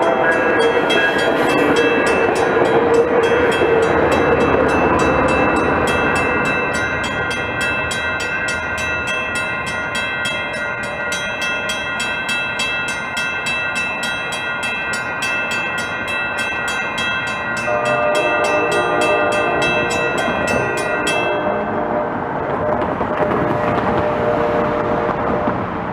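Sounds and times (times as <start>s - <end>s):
train passing on rails: 0.0s - 25.9s.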